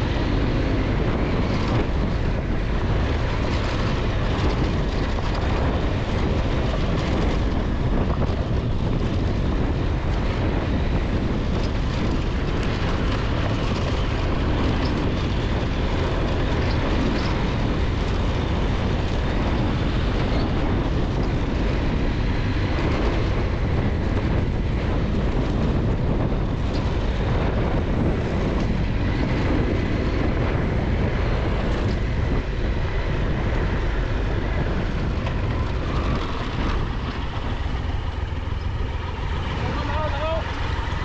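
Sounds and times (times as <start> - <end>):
motorcycle engine: 0.0 - 41.0
wind and road noise: 0.0 - 41.0.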